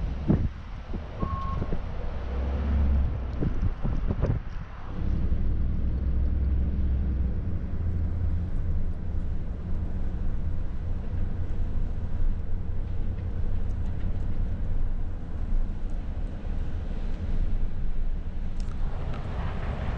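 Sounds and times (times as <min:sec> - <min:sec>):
car engine and tyre rumble: 0:00.0 - 0:19.9.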